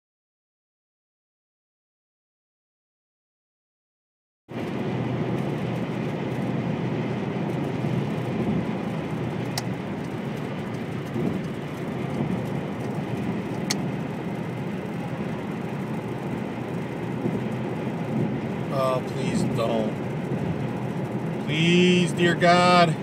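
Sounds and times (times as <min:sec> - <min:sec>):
car driving at highway speed: 0:04.5 - 0:23.0.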